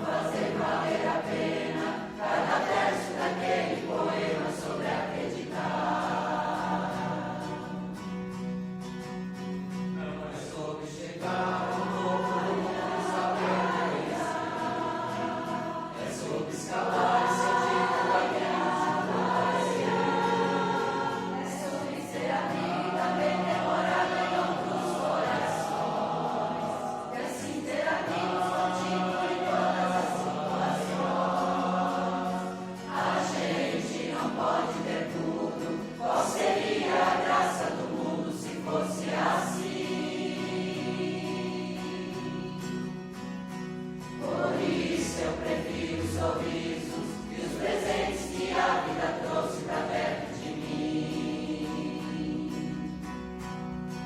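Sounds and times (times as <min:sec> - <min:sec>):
choir singing pop song: 0:00.0 - 0:08.4, 0:10.0 - 0:43.3, 0:44.0 - 0:53.2.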